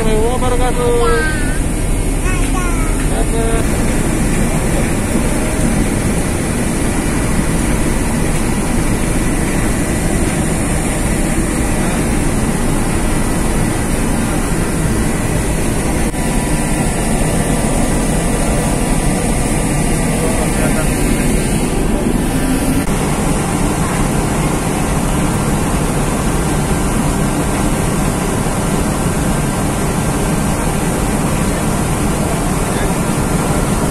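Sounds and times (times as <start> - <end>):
ship engines rumbling: 0.0 - 33.9.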